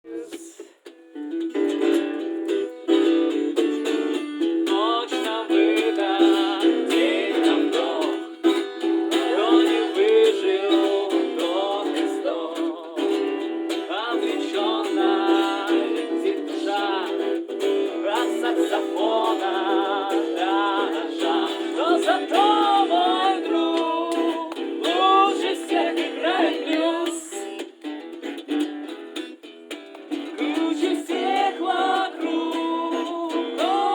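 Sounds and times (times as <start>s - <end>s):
people singing: 0.0s - 0.9s, 1.8s - 27.9s, 30.1s - 33.9s
acoustic guitar strumming: 0.5s - 33.9s.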